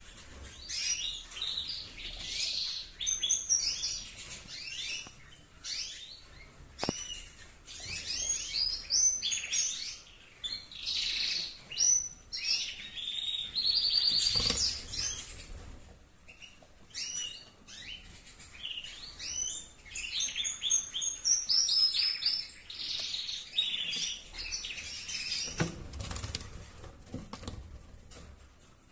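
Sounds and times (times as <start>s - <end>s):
canaries singing chirps and trills: 0.0s - 28.9s.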